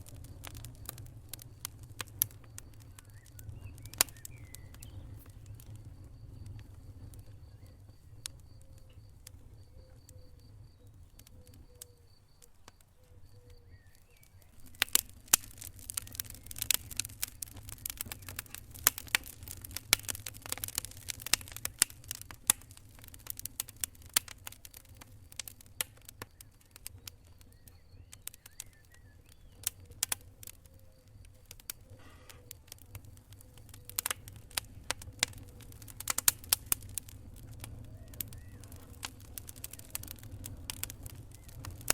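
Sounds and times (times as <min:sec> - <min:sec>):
low rumble of flames: 0:00.0 - 0:41.9
wood fire pops and snaps: 0:00.0 - 0:41.9.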